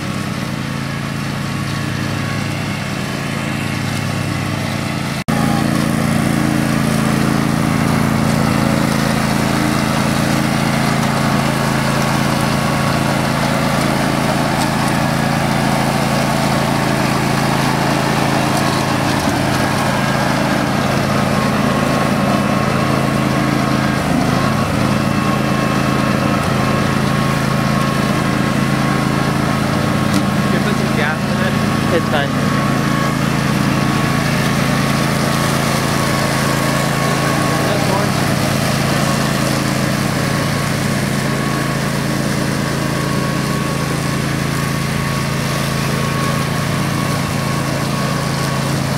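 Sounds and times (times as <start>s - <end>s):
riding mower engine cutting grass: 0.0s - 48.9s.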